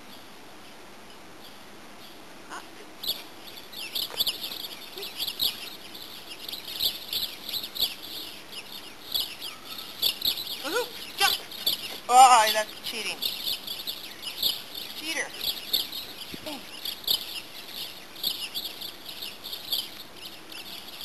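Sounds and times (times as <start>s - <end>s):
birds chirping: 0.0s - 21.0s
faint steady hiss: 0.0s - 21.0s.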